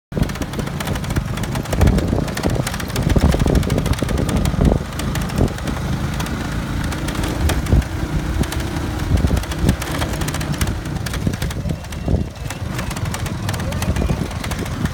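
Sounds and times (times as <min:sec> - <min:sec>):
knocks and rattles: 0:00.1 - 0:14.9
motorcycle engine running: 0:00.1 - 0:14.9
wind buffeting microphone: 0:00.1 - 0:14.9.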